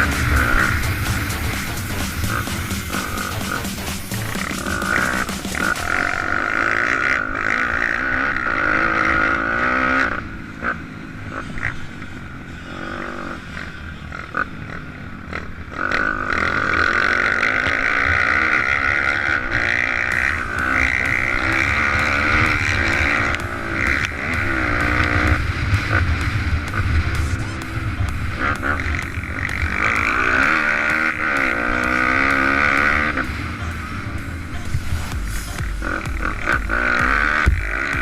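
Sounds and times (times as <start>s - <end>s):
pit bike engine revving: 0.0s - 38.0s.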